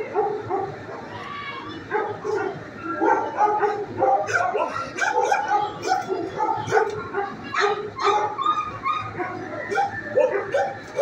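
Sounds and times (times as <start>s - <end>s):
dogs barking and yelping: 0.0s - 1.1s, 1.9s - 11.0s.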